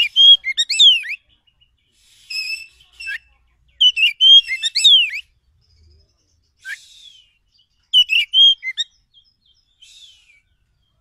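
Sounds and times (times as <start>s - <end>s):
bird whistled song: 0.0s - 11.0s
harsh rasping bird calls: 0.0s - 11.0s.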